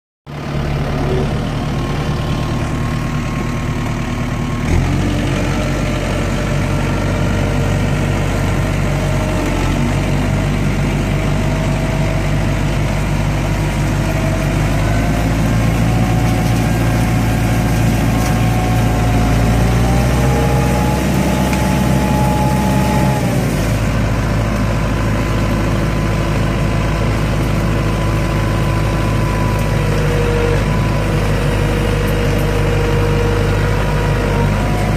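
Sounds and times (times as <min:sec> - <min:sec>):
diesel tractor engine running: 0:00.3 - 0:34.9.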